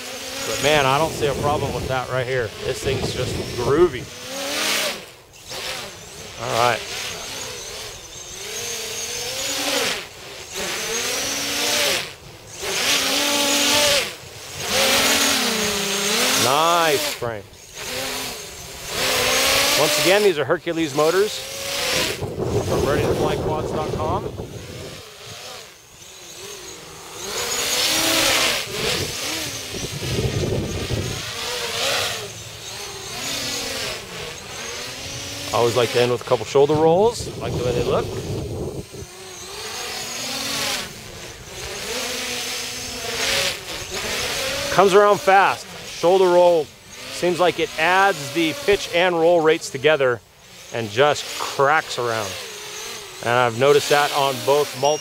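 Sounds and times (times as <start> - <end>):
quadcopter motors buzzing whine: 0.0 - 55.0.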